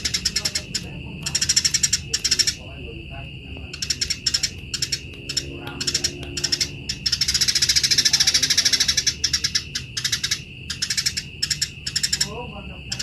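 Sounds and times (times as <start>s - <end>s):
sparrows chattering: 0.0s - 13.0s.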